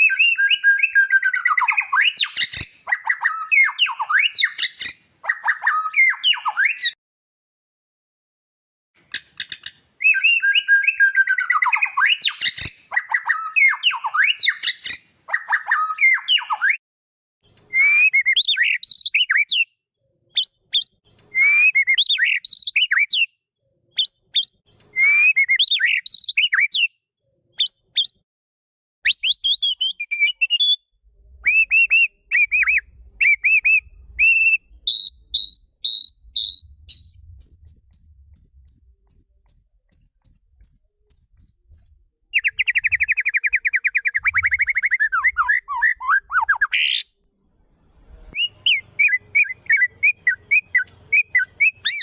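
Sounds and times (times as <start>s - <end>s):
songbird whistled song: 0.0s - 7.0s, 9.1s - 16.8s, 17.4s - 28.2s, 29.0s - 52.0s.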